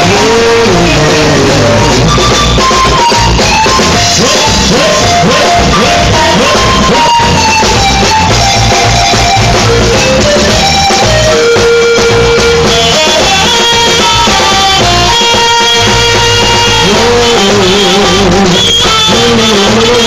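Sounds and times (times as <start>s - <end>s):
drum beat: 0.0s - 20.0s
keyboard: 0.0s - 20.0s
saxophone melody: 0.0s - 20.0s.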